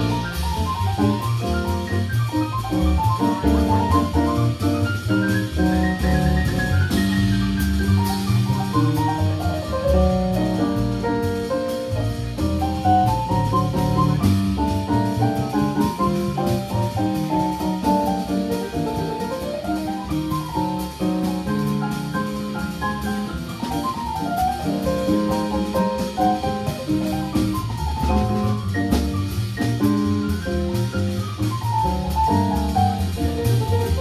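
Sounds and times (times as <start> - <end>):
drum kit with cymbal strokes: 0.0 - 34.0
piano melody: 0.0 - 34.0.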